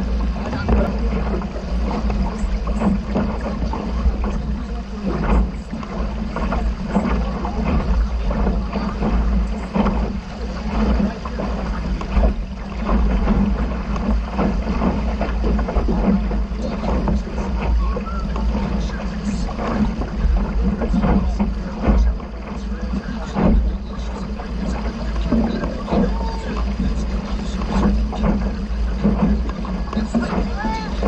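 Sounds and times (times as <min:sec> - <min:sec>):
water slapping against hull: 0:00.0 - 0:31.0
wind buffeting microphone: 0:00.0 - 0:31.0.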